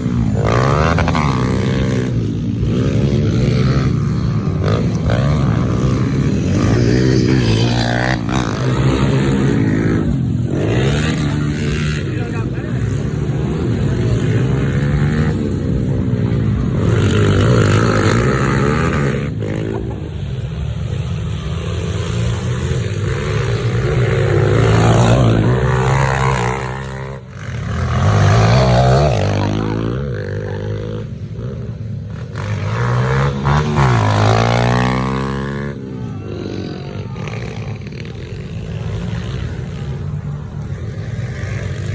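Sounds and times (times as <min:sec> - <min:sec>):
pit bike engines revving: 0:00.0 - 0:41.9.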